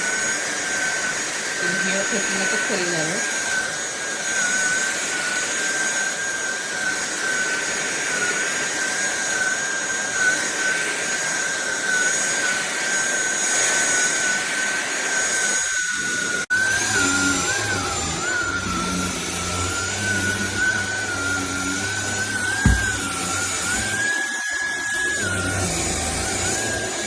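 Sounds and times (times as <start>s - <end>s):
vacuum cleaner motor whine: 0.0s - 27.0s.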